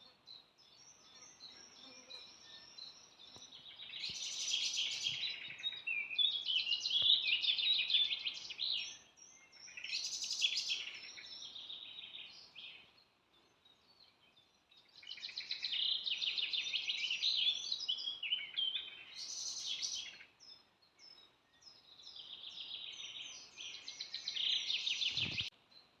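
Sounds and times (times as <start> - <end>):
songbird chirping and trilling: 0.0 - 26.0.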